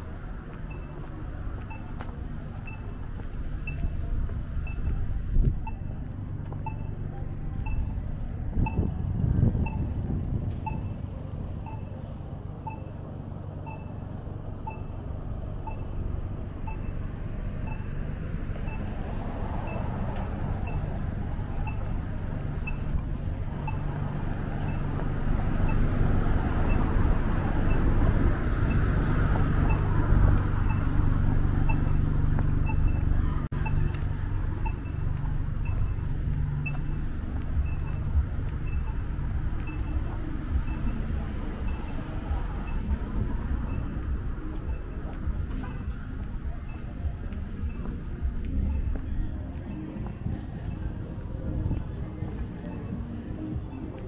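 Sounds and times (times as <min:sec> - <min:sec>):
cars passing: 0:00.0 - 0:54.0.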